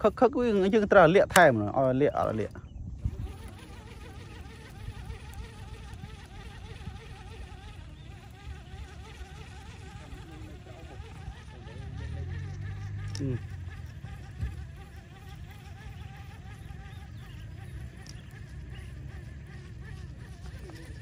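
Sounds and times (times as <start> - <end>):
steady low hum: 0.0 - 21.0
mosquitoes whining: 3.0 - 21.0.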